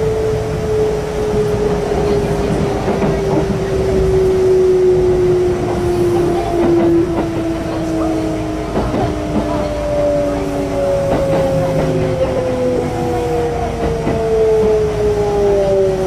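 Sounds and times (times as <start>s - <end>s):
train motors whining: 0.0s - 15.4s
wheels rumbling and clattering on rail: 0.0s - 16.0s.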